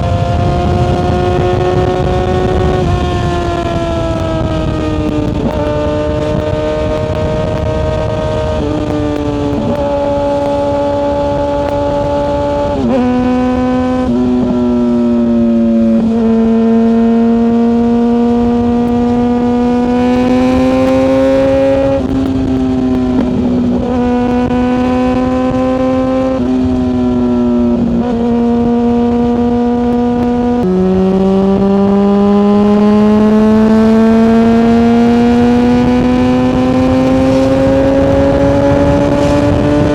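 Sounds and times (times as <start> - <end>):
motorcycle engine shifting gears: 0.0 - 39.9
wind and road noise: 0.0 - 39.9.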